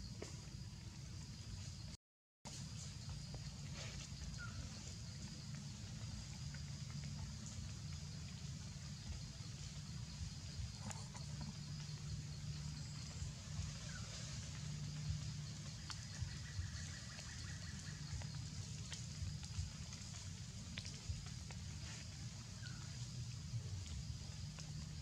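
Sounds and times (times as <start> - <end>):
faint chirps: 0.0 - 25.0
high insect drone: 0.0 - 25.0
low hum: 2.5 - 25.0.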